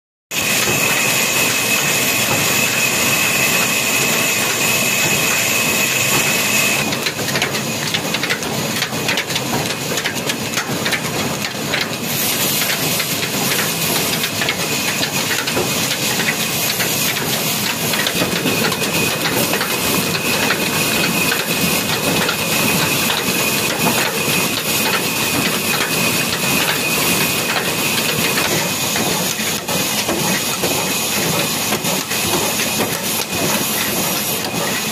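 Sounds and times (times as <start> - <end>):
stationary diesel engine clattering: 0.4 - 34.9.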